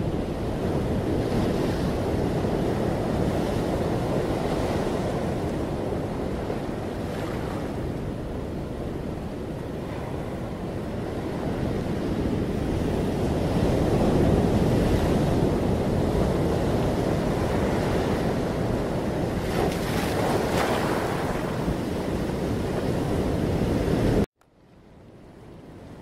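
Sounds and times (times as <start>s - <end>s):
ocean waves breaking: 0.1s - 24.2s.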